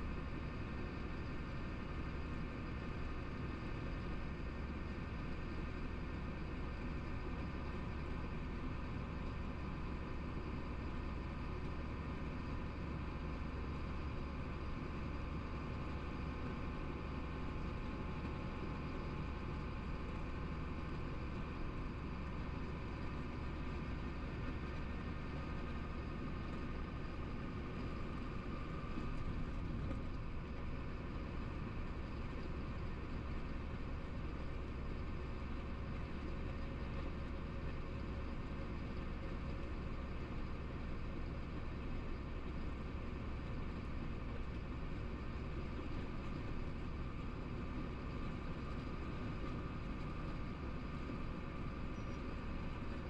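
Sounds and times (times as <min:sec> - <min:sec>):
truck engine and tyres droning: 0:00.0 - 0:53.0.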